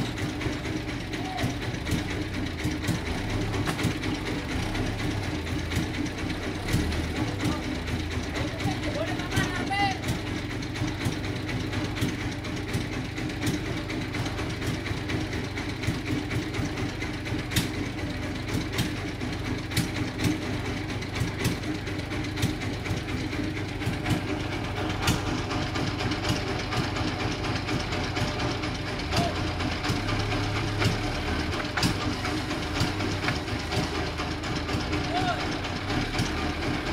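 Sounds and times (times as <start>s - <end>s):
rattling clicks and knocks: 0.0s - 29.1s, 29.7s - 36.9s.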